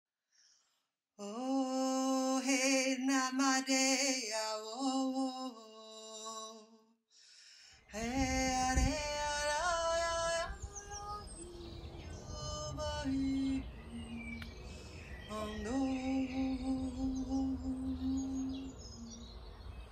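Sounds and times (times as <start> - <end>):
slow chant-like singing: 1.2 - 7.0, 7.8 - 19.8.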